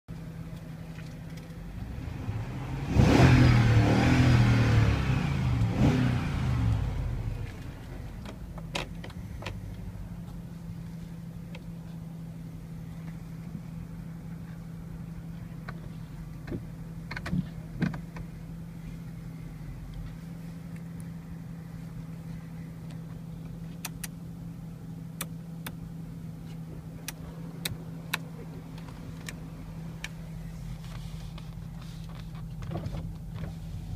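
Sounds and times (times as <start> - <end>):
engine revving and idling: 0.1 - 33.9.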